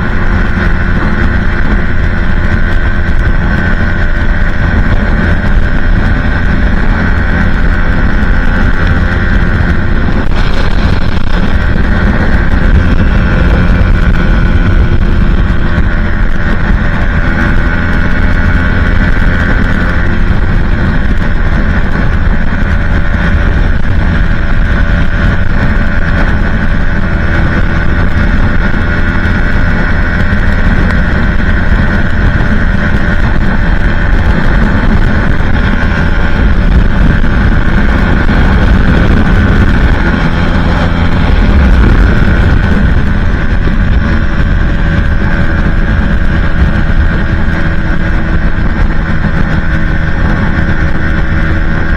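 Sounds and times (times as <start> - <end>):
motorcycle engine at high revs: 0.0 - 51.9
wind noise on microphone: 0.0 - 51.9.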